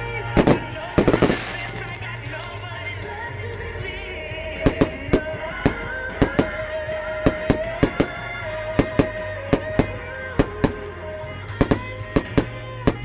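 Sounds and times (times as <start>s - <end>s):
background music: 0.0s - 13.0s
fireworks bangs: 0.2s - 2.6s, 4.6s - 13.0s
fireworks popping: 0.2s - 2.6s, 4.6s - 13.0s.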